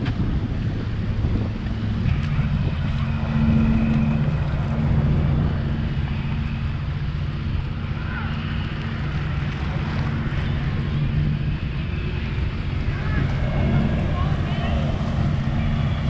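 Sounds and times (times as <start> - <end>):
motorboat engines droning: 0.0 - 16.0
wind on microphone: 0.0 - 16.0.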